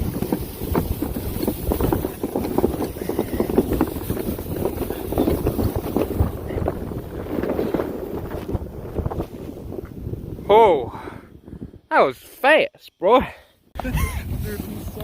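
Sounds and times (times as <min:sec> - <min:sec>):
wind buffeting microphone: 0:00.0 - 0:12.0, 0:13.8 - 0:15.0.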